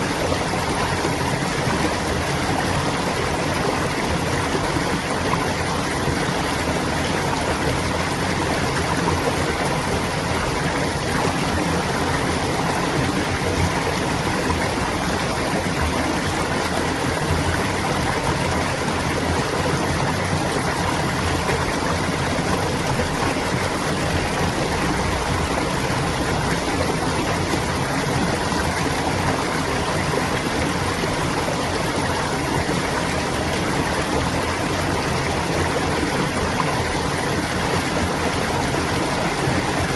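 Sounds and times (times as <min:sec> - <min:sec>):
water babbling: 0:00.0 - 0:39.9.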